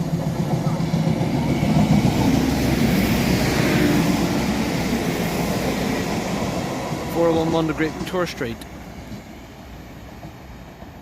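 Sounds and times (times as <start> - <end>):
diesel train engine hum: 0.0 - 11.0
wheel and rail noise: 0.0 - 11.0.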